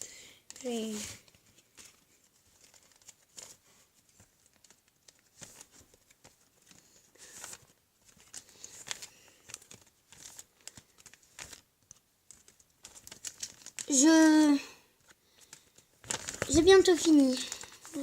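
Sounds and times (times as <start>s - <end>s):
trading cards rustling and clicking: 0.5s - 18.0s.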